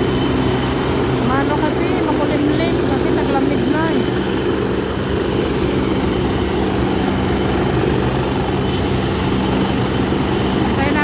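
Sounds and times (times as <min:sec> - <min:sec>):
helicopter engine hum: 0:00.0 - 0:11.0
helicopter rotor chop: 0:00.0 - 0:11.0.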